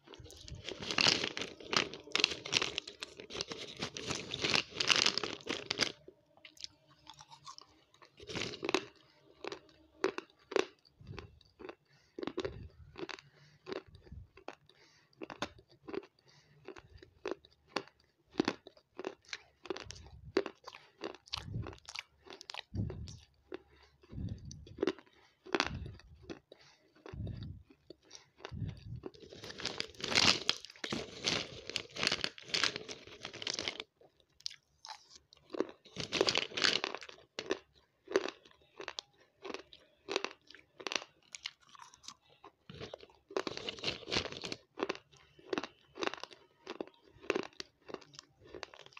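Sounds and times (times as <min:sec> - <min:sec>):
crunching and chewing food: 0:00.0 - 0:48.9.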